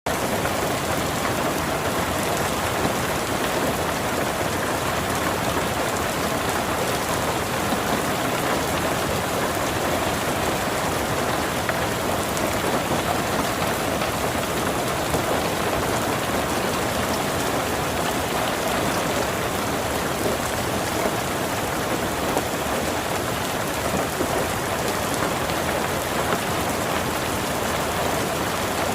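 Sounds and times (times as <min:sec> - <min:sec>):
steady rain falling: 0:00.1 - 0:28.9.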